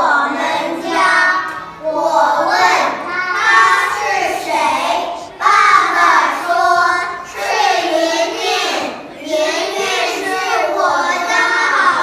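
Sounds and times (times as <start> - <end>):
children reading aloud in unison: 0.0 - 12.0.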